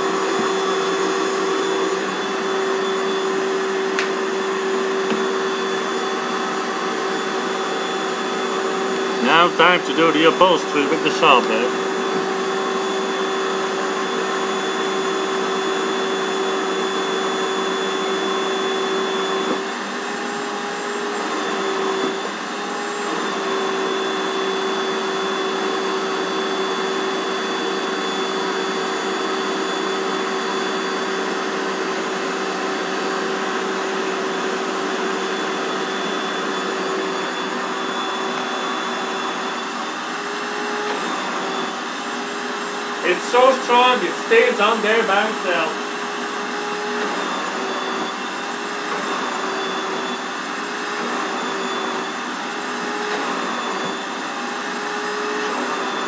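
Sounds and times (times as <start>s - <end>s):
shop vacuum running: 0.0s - 56.0s.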